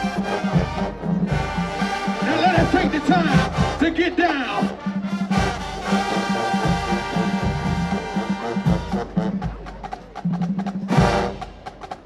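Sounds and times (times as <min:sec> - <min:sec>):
brass chord: 0:00.0 - 0:09.7.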